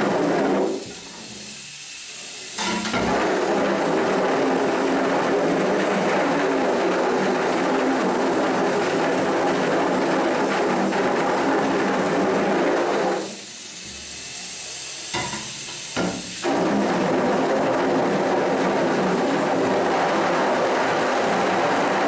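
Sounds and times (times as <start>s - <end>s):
water spray hissing on screen: 0.0s - 22.0s.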